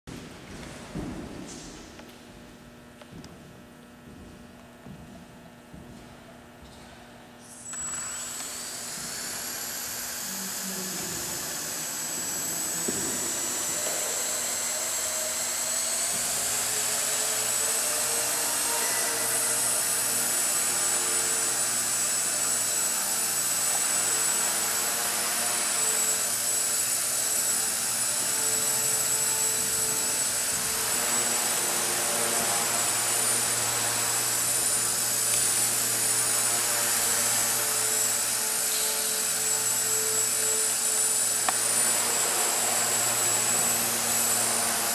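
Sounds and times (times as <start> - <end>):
toy helicopter rotors whining: 7.4 - 44.9.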